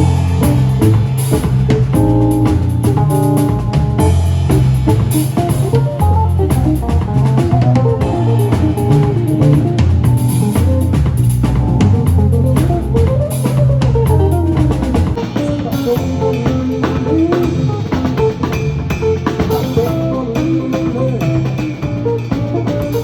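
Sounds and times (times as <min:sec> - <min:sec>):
bass line: 0:00.0 - 0:23.0
drum kit beat: 0:00.0 - 0:23.0
melodic lead line: 0:00.0 - 0:23.0.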